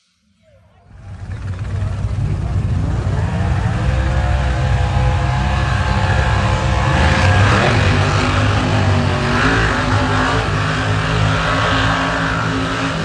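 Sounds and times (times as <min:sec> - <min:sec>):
engine at high revs: 0:00.9 - 0:13.0.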